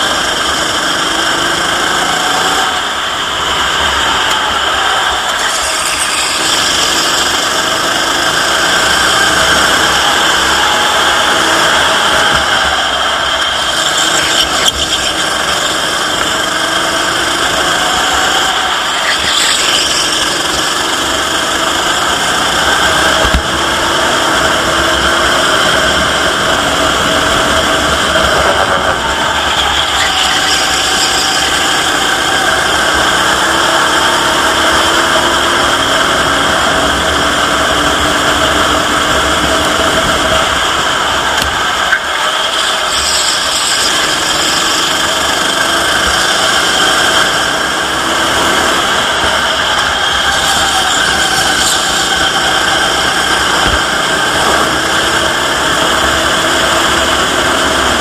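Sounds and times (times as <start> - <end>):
go-kart engine revving: 0.0 - 58.0
steady rushing noise: 0.0 - 58.0.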